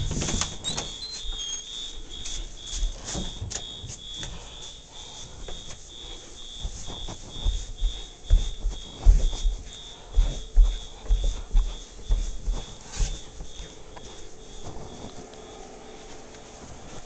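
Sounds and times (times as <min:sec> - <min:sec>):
footsteps thudding: 0:00.0 - 0:15.3
fire alarm horn pulsing: 0:00.0 - 0:17.0.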